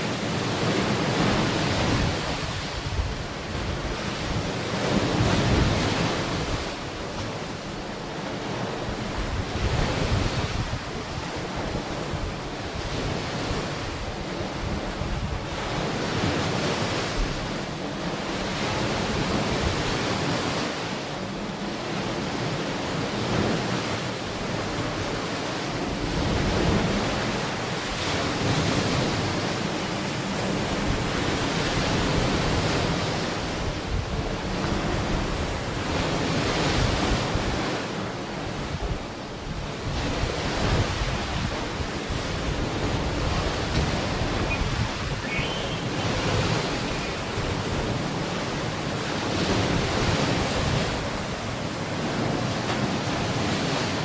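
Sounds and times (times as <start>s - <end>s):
ocean waves on a beach: 0.0s - 54.0s.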